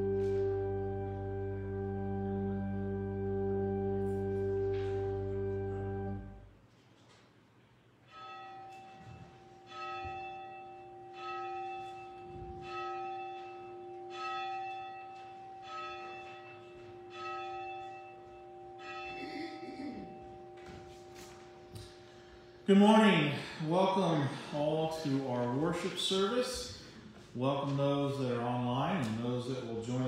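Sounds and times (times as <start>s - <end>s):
church bell tolling: 0.0s - 6.5s, 8.0s - 26.7s.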